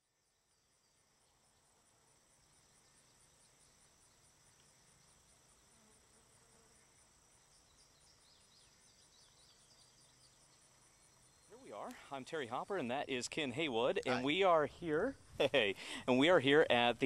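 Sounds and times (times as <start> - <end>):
short insect chirps: 0.0 - 16.4
insects pulsing chirps: 0.0 - 17.0
thin insect whine: 0.0 - 17.0.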